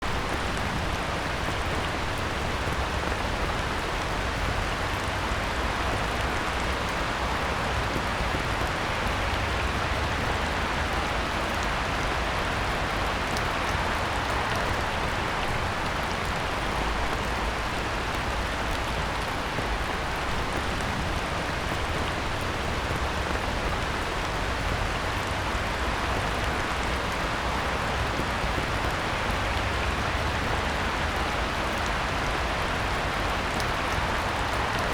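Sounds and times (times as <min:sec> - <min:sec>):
heavy rain on pond: 0:00.0 - 0:34.9.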